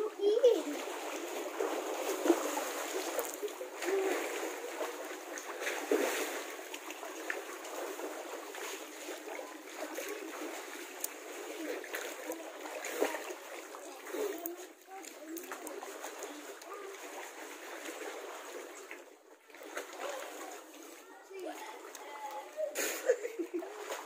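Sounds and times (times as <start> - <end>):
water splashing in pool: 0.0 - 24.0.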